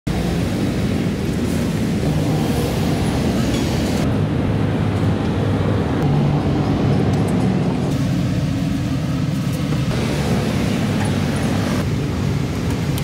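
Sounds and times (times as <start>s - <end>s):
passing motorbikes and cars: 0.1s - 13.0s.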